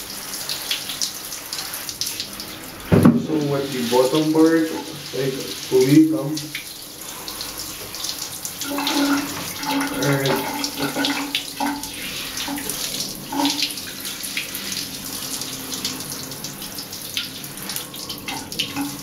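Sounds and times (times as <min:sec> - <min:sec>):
water running from shower head: 0:00.0 - 0:19.0.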